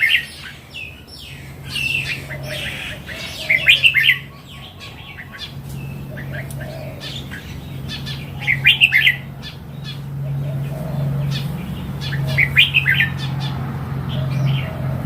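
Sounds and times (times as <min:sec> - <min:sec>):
bird singing warbled notes: 0:00.0 - 0:14.8
steady low hum: 0:00.0 - 0:15.0.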